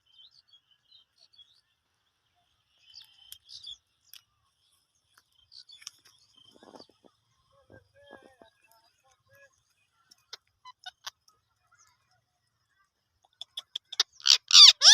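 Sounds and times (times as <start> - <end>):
faint bird chirps: 0.0 - 14.9.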